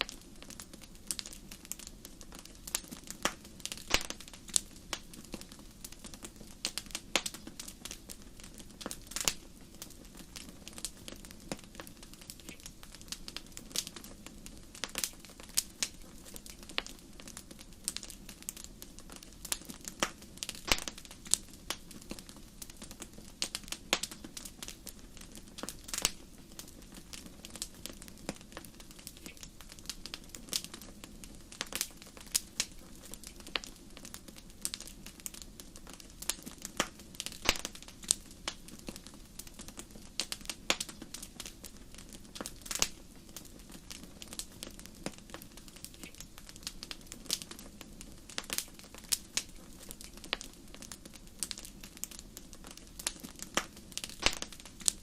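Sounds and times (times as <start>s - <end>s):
low rush of burning flames: 0.0s - 55.0s
wood fire pops and snaps: 0.0s - 55.0s.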